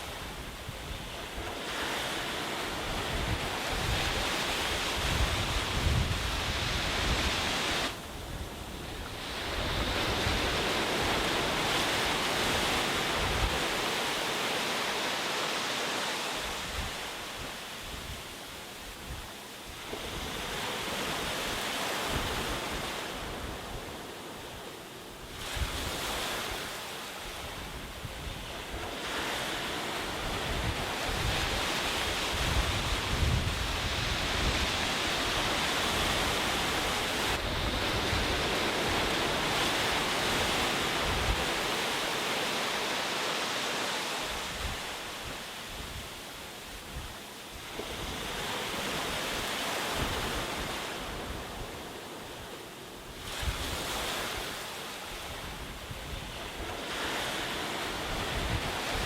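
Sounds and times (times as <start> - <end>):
wind rumbling on microphone: 0.0 - 14.2, 16.4 - 43.0, 44.0 - 59.0
sea waves breaking: 0.0 - 59.0.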